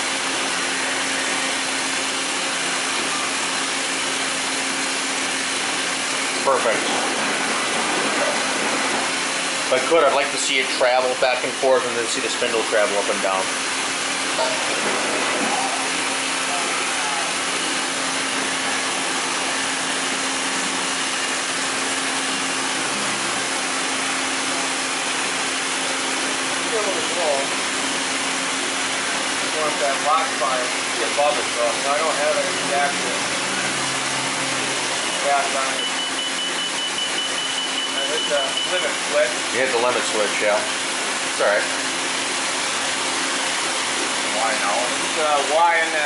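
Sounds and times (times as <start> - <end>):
coolant jets spraying: 0.0 - 46.0
low machine hum: 0.0 - 46.0.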